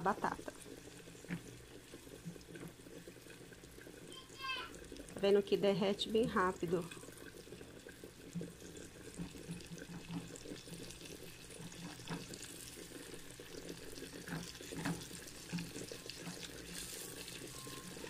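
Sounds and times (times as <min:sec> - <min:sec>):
margarine sizzling and bubbling: 0:00.0 - 0:18.0.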